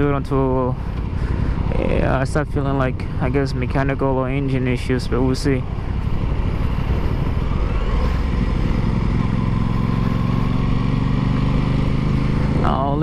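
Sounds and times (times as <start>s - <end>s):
motorcycle engine running: 0.0s - 13.0s
road noise: 0.0s - 13.0s.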